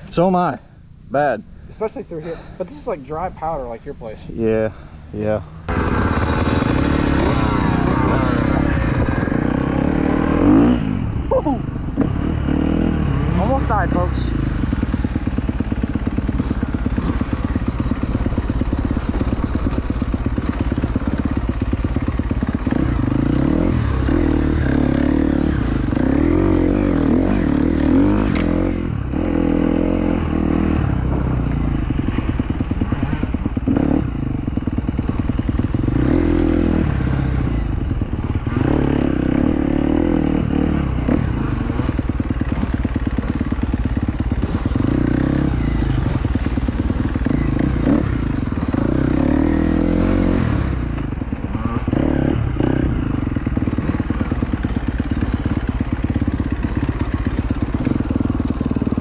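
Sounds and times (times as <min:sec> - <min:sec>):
dirt bike engine revving: 0:04.7 - 0:59.0.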